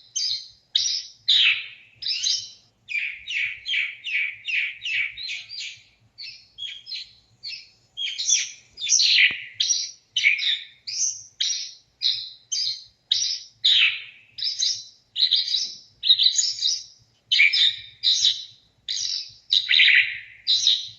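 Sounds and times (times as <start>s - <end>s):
songbird chirping and whistling: 0.0s - 20.9s.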